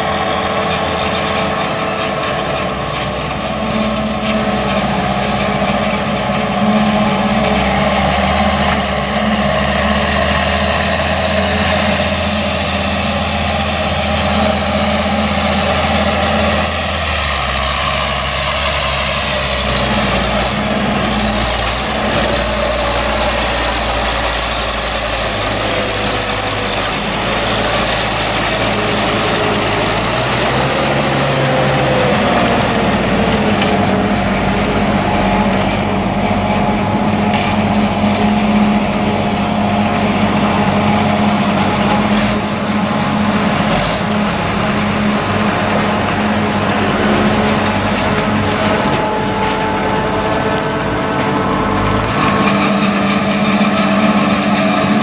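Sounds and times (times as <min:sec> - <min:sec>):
high machine whine: 0:00.0 - 0:55.0
tractor engines running: 0:00.0 - 0:55.0.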